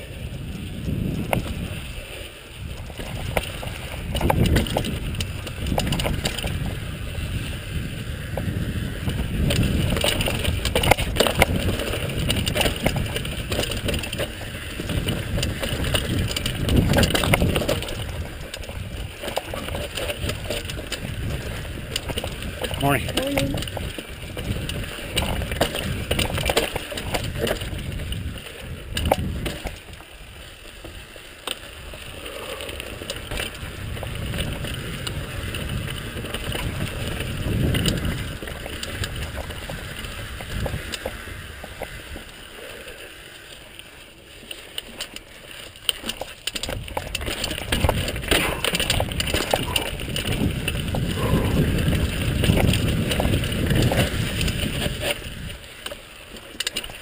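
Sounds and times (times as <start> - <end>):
bike rattling and knocking: 0.0 - 57.0
bike tyres rolling over dirt: 0.0 - 57.0
wind rumbling on microphone: 0.0 - 57.0.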